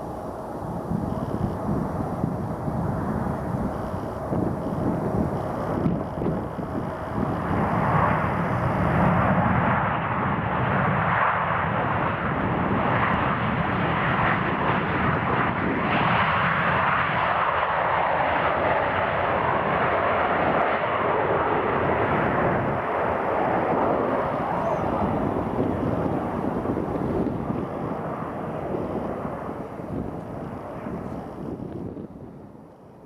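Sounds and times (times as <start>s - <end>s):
jet engines rushing: 0.0s - 33.0s.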